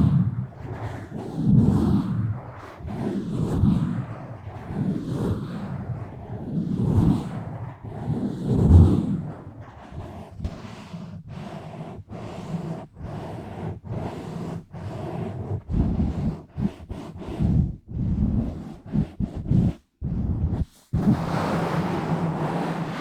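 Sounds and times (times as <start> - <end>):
rubbing on microphone: 0.0 - 23.0.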